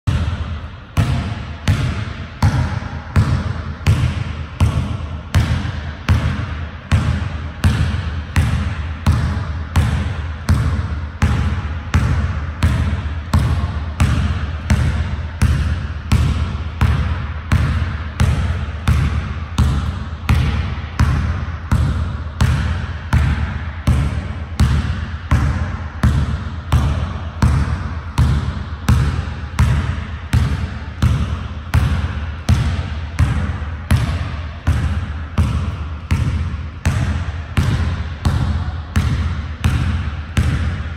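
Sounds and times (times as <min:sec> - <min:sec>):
basketball bouncing on wooden floor: 0:00.1 - 0:40.9.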